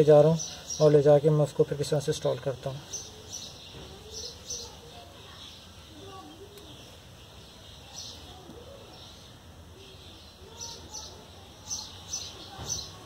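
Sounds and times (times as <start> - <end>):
faint background noise: 0.0 - 13.0
small birds chirping: 0.0 - 13.0.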